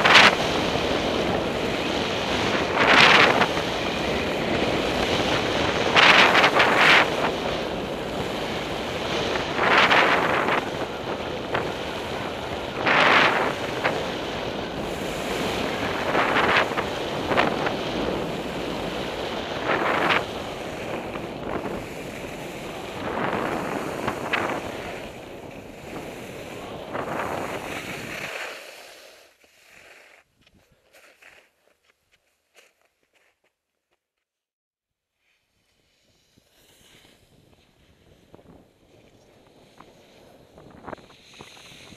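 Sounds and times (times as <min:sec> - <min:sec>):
wind rushing on microphone: 0:00.0 - 0:28.6, 0:36.1 - 0:41.9
skis carving through snow: 0:00.0 - 0:33.5, 0:35.2 - 0:41.9.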